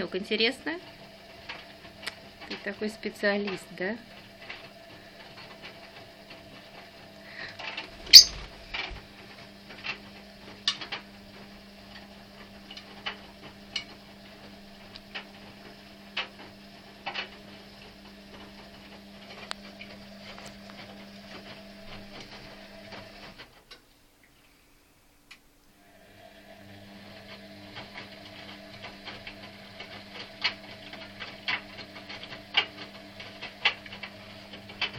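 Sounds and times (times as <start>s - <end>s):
washing machine motor hum: 0.0s - 23.6s, 25.7s - 34.9s.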